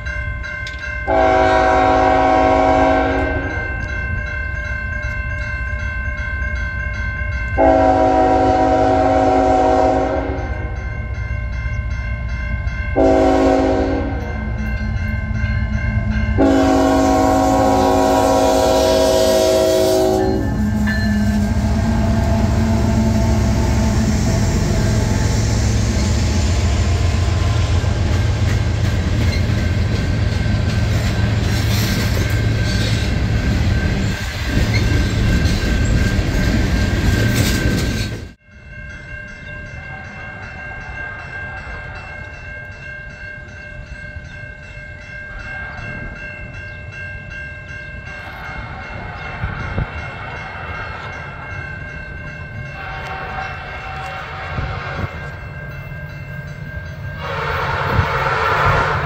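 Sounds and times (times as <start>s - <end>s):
diesel locomotives rumbling: 0.0s - 59.0s
distant train rumble: 0.0s - 59.0s
train wheels on rails: 0.0s - 59.0s.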